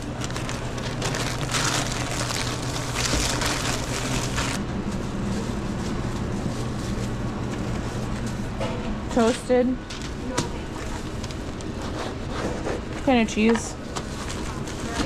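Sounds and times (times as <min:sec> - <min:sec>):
low hum of shop equipment: 0:00.0 - 0:15.0.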